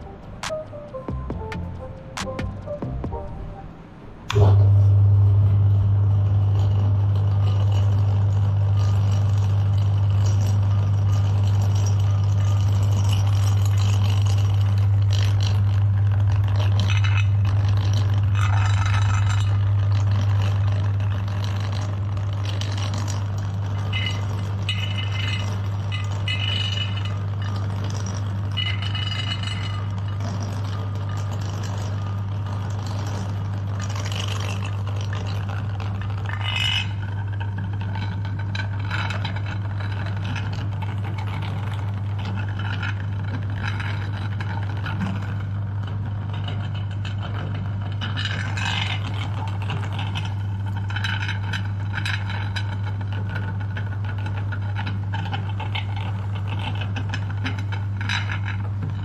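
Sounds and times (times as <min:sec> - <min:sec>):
meat grinder motor hum: 0:04.3 - 0:59.0
rattling and scraping in grinder: 0:04.3 - 0:59.0.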